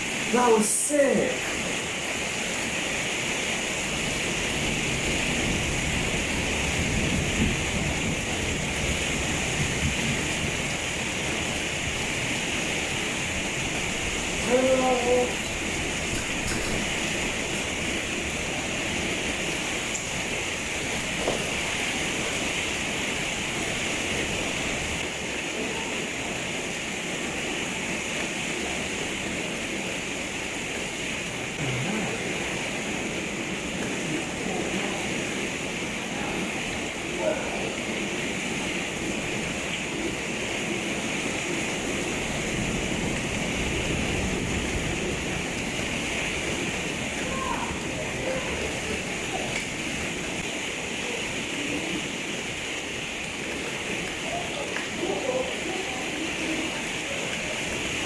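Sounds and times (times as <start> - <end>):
torrential rain: 0.0 - 58.0.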